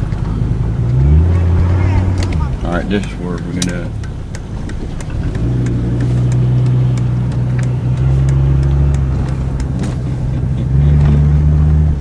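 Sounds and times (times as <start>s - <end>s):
diesel car engine droning: 0.0s - 12.0s.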